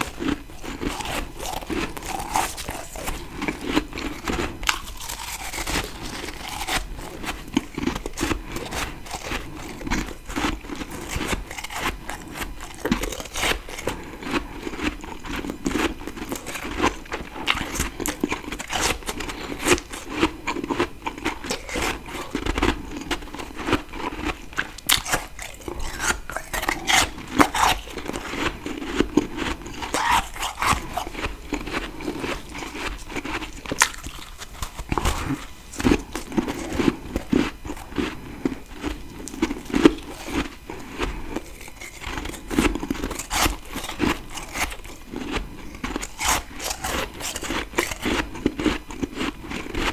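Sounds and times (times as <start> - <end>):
chewing crunchy frost: 0.0 - 49.9.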